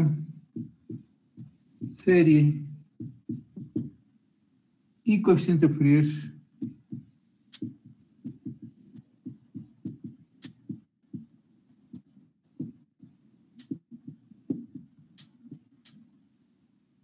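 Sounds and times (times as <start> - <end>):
marker pen writing on whiteboard: 0.0 - 4.1, 6.3 - 16.1.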